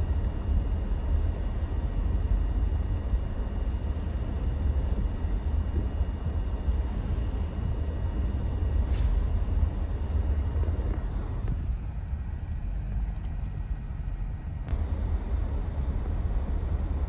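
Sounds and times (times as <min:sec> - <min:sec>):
faint steady whine: 0:00.0 - 0:17.0
vehicle low rumble: 0:00.0 - 0:17.0.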